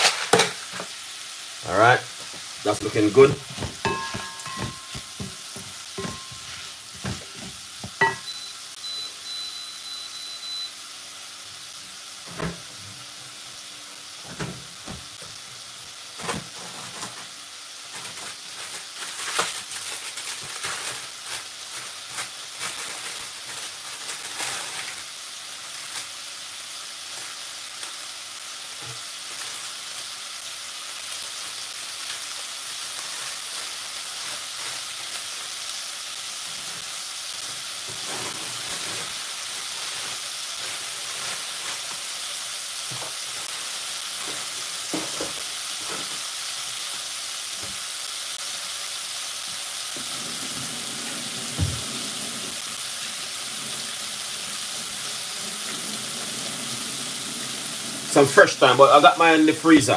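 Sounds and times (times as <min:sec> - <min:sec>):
vegetables sizzling in a pot: 0:00.0 - 0:59.9.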